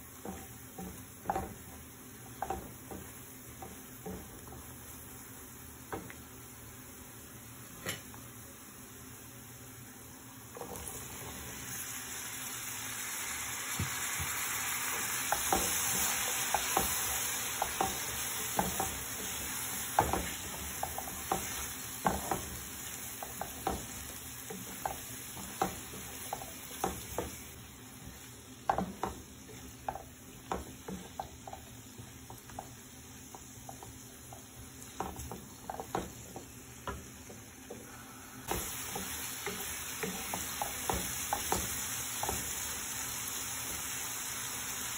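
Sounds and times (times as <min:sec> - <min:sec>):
onions sizzling in oil: 0:00.0 - 0:44.9.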